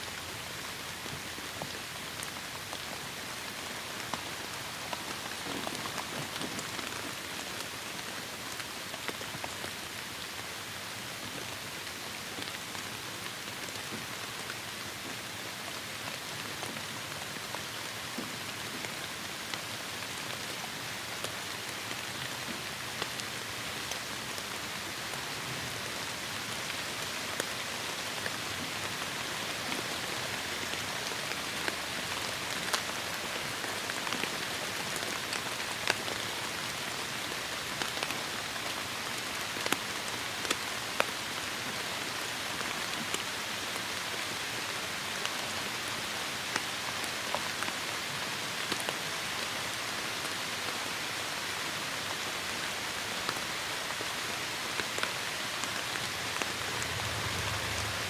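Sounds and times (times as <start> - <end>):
raindrops ticking on surfaces: 0.2 - 58.0
heavy rain: 2.2 - 58.0.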